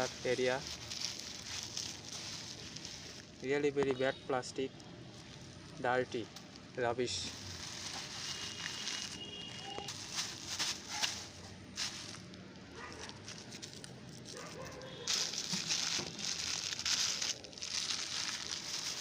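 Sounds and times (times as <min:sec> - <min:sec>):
plastic bag crinkling: 0:00.0 - 0:03.3, 0:05.1 - 0:19.0.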